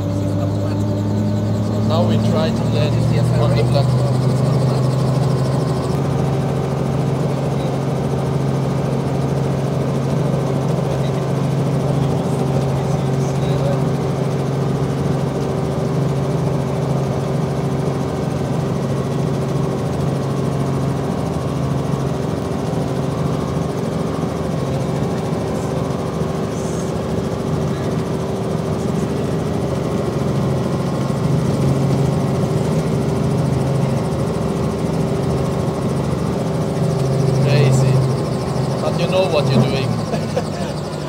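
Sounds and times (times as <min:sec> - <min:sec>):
helicopter engine and rotor drone: 0:00.0 - 0:41.0.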